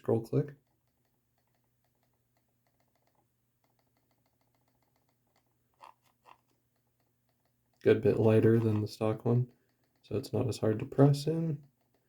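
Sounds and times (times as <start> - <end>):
mouse scroll wheel ticking: 0.6 - 10.3, 11.0 - 12.0.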